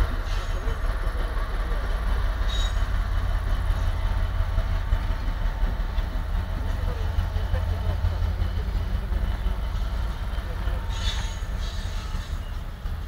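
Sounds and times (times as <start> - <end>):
train rumbling on tracks: 0.0 - 13.0.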